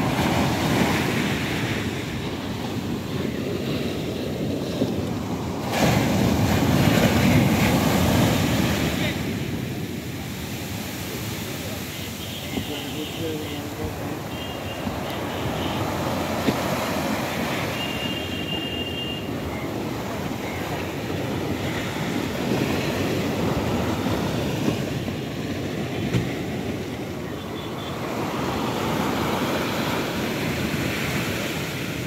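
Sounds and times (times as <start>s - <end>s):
surf washing on sandy beach: 0.0s - 32.0s.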